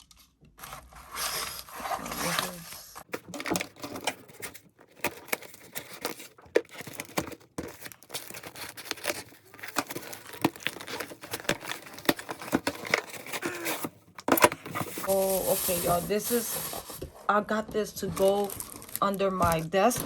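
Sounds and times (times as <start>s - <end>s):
packaging crinkling: 0.0s - 17.0s, 18.1s - 20.0s
packaging tearing: 0.6s - 17.0s, 18.2s - 20.0s.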